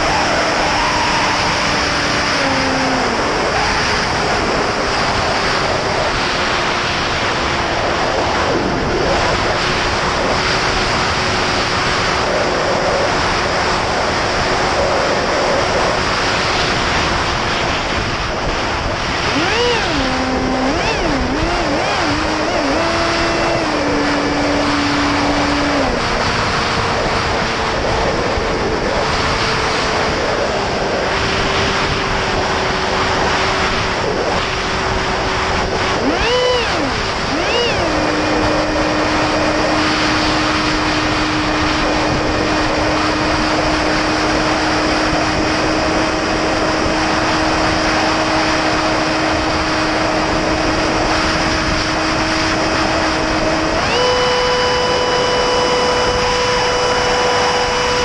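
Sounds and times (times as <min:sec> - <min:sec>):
electric motor and propeller whining: 0:00.0 - 0:58.0
wind rushing over camera: 0:00.0 - 0:58.0.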